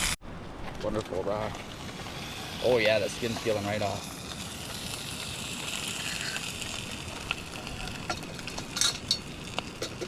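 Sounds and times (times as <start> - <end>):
fish sizzling: 1.4 - 10.0.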